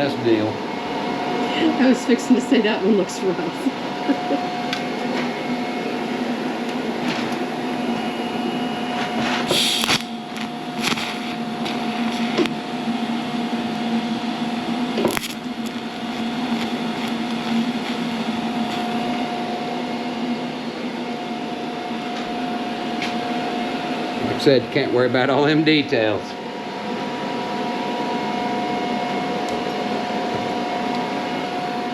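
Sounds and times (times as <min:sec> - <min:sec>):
welder electrical hum: 0:00.0 - 0:26.3, 0:28.5 - 0:31.9.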